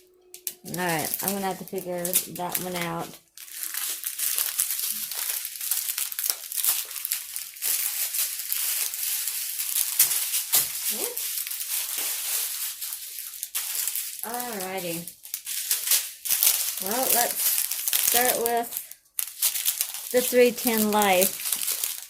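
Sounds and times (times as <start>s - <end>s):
plastic bags crinkling: 0.2s - 22.0s.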